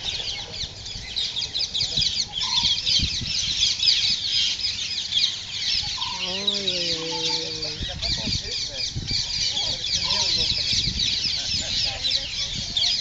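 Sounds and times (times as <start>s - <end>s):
birds chirping: 0.0s - 13.0s
drawn-out lower bird call: 0.0s - 13.0s.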